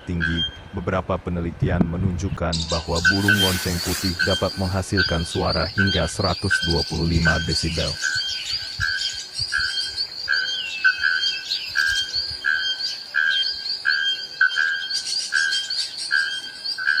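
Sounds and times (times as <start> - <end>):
bellbird calling: 0.0 - 1.0, 2.5 - 17.0
high insect trill: 2.6 - 17.0.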